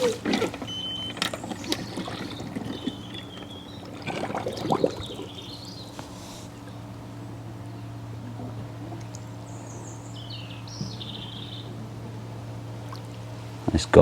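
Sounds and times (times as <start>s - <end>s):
steady low hum: 0.0s - 14.0s
water trickling and splashing: 0.0s - 14.0s.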